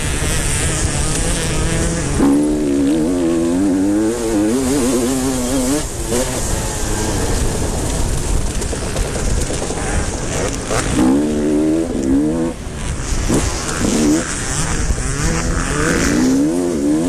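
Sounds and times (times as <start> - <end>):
motorcycle engine revving: 0.0 - 17.0
other motorcycles running: 0.0 - 17.0.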